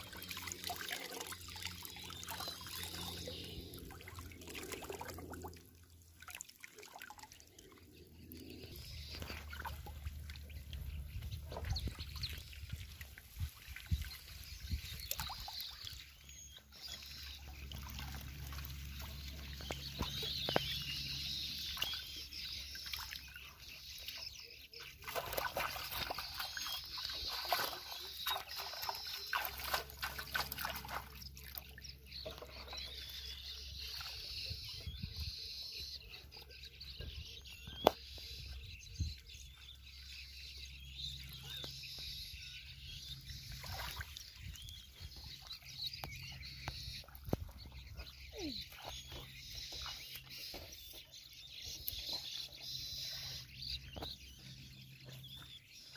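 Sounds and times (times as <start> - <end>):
water sloshing and splashing: 0.0 - 35.3, 41.0 - 55.9.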